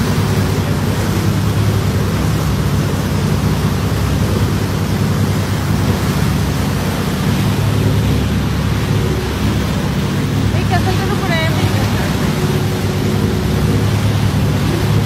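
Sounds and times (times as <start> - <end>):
boat engine drone: 0.0 - 15.0
wind and water rushing: 0.0 - 15.0.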